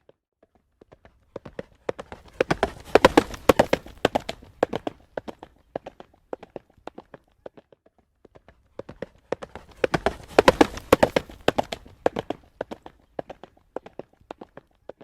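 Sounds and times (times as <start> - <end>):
horse hooves clip-clopping on road: 0.4 - 15.0.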